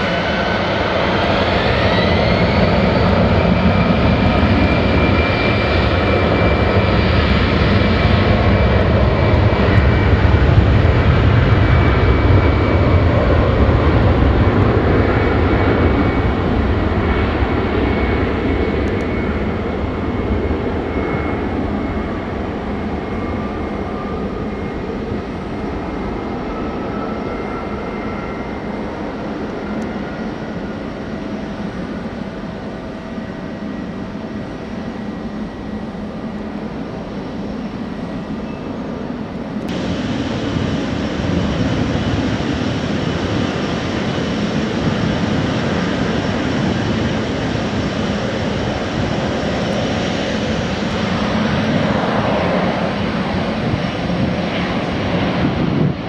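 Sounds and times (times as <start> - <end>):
jet airliner engines: 0.0 - 56.0.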